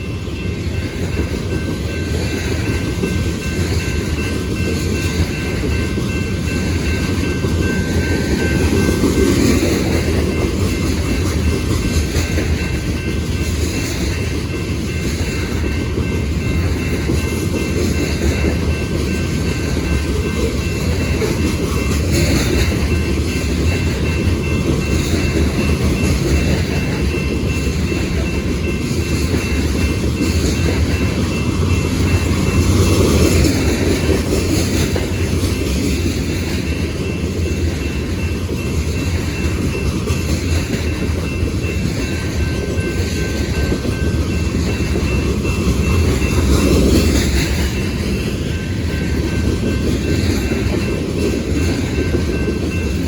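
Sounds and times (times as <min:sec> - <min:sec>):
freight train rumbling past: 0:00.0 - 0:53.0
wheels clacking over rail joints: 0:00.7 - 0:53.0.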